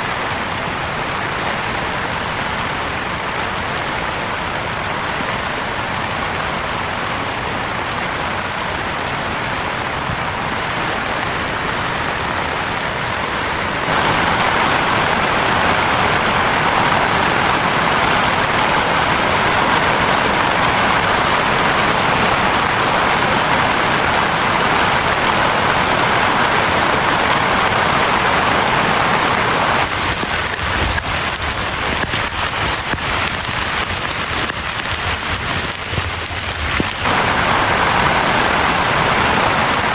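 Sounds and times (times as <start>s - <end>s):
heavy rain falling: 0.0s - 39.9s
raindrops ticking: 7.8s - 39.9s.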